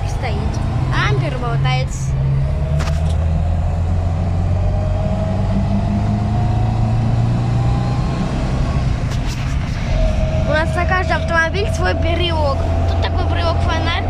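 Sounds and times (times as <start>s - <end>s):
car engine droning inside cabin: 0.0s - 14.0s.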